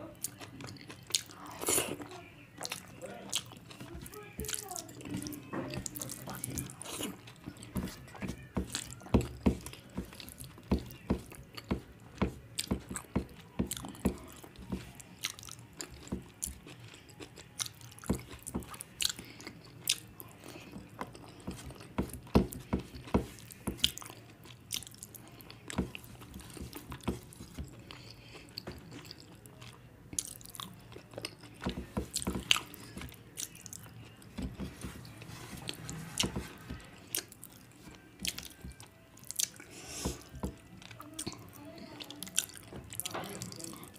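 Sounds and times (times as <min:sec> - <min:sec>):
chewing food: 0:00.0 - 0:43.9.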